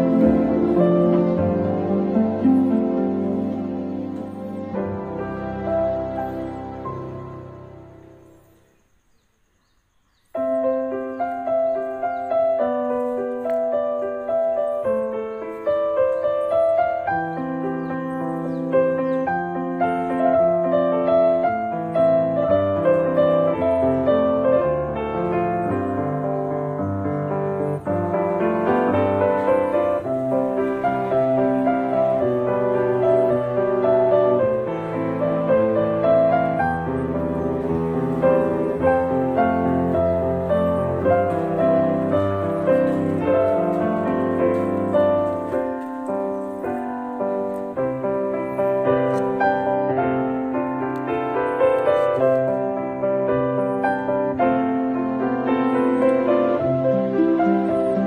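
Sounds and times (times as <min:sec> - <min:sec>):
gentle piano melody: 0:00.0 - 0:09.0, 0:10.1 - 0:58.0.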